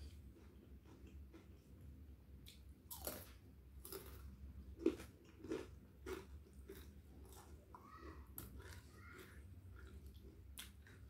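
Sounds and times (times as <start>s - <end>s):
person chewing crunchy food: 0.0s - 1.8s, 2.4s - 11.0s.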